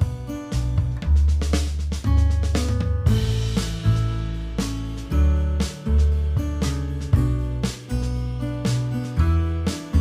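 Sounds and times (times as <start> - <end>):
instrumental music with strong bass: 0.0 - 10.0.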